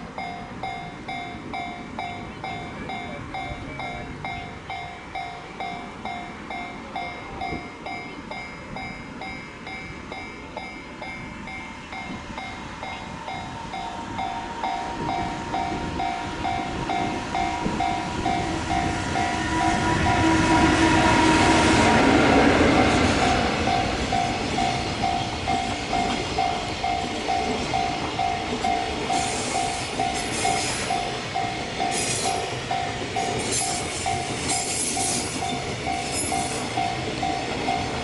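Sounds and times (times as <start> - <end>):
freight train rumble: 0.0 - 38.0
level-crossing warning bell: 0.0 - 38.0.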